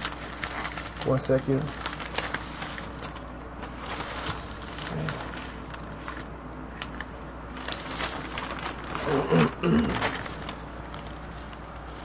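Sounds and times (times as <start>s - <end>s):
newspaper rustling: 0.0s - 12.0s.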